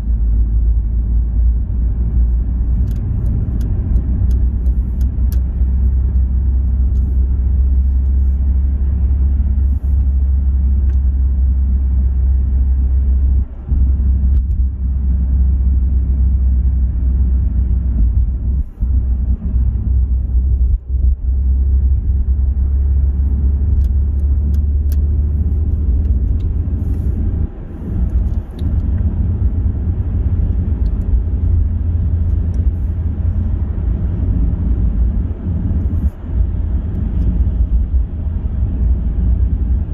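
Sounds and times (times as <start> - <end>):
car tyre and road noise: 0.0 - 39.9.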